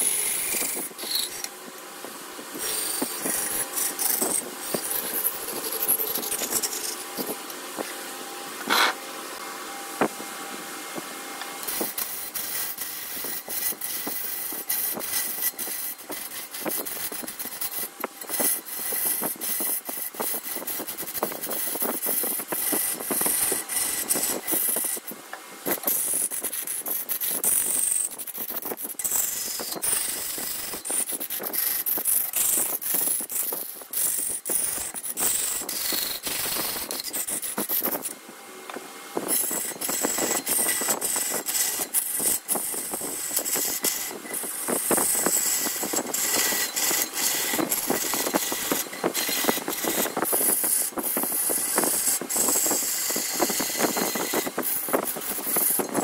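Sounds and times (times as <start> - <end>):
wood lathe tool rasping: 0.0 - 1.5, 2.5 - 7.9, 11.6 - 38.2, 39.2 - 56.0.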